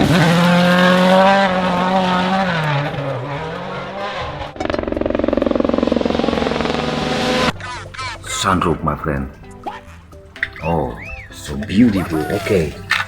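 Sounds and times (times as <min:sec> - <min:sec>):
race car engine: 0:00.0 - 0:13.0.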